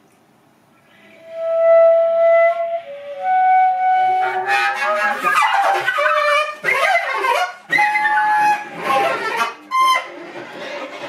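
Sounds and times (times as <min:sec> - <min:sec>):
flute long held notes: 0:00.9 - 0:10.1.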